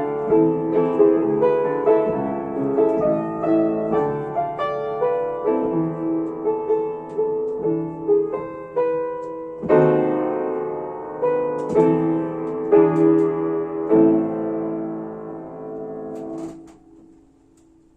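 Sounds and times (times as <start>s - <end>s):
solo piano melody: 0.0s - 17.9s.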